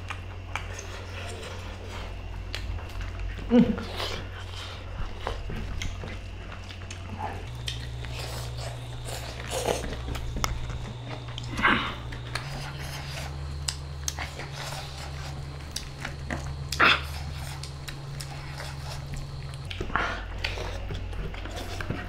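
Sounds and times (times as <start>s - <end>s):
chewing and mouth smacks: 0.0s - 22.0s
low steady hum: 0.0s - 22.0s.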